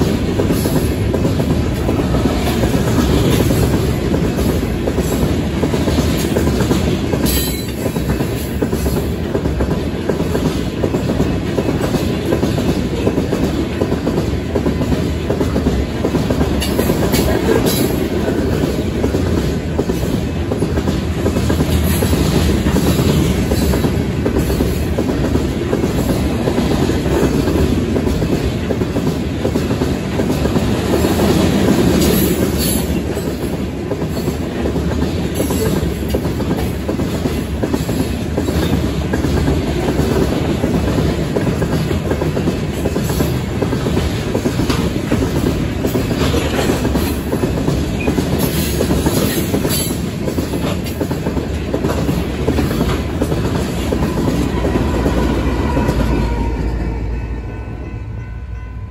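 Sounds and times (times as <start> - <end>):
freight train wheels clattering: 0.0 - 58.2.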